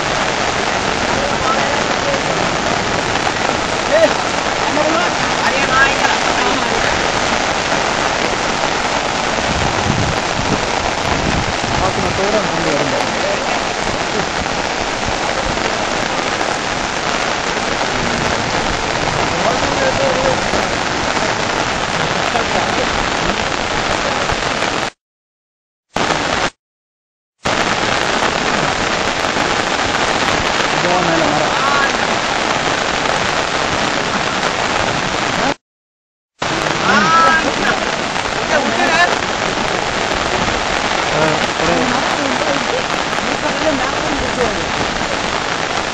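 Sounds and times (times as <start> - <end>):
rain falling: 0.0 - 25.0, 26.0 - 26.6, 27.4 - 35.6, 36.4 - 45.9.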